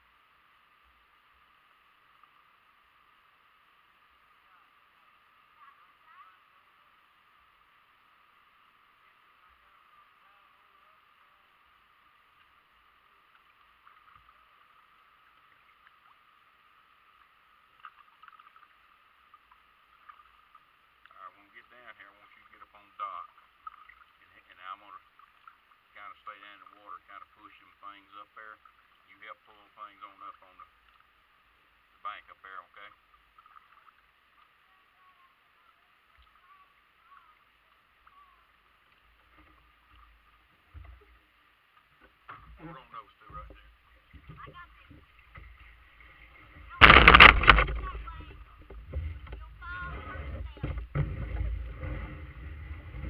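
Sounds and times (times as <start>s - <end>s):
faint hiss: 0.0s - 53.0s
faint water lapping: 0.0s - 53.0s
paddle drips and splashes: 0.0s - 53.0s.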